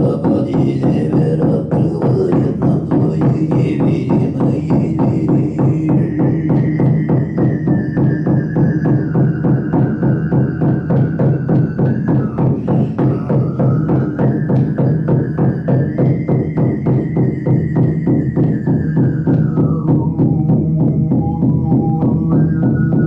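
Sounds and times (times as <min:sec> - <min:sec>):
frame drum beaten steadily: 0:00.0 - 0:23.0
throat singing drone: 0:00.0 - 0:23.0
whistling overtone melody: 0:03.2 - 0:23.0.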